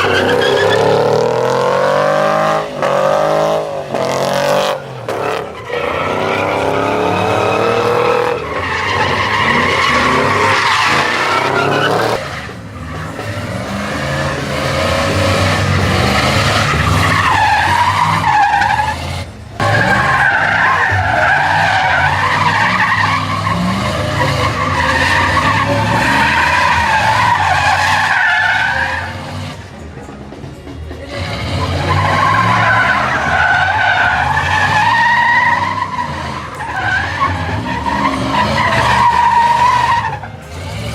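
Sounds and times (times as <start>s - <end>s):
truck engines revving: 0.0s - 40.9s
tyres squealing and skidding: 0.0s - 40.9s.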